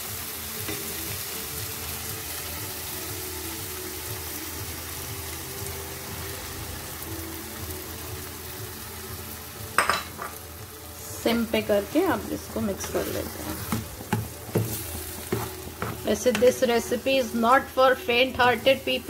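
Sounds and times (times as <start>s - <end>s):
masala sizzling in a pan: 0.0s - 19.0s.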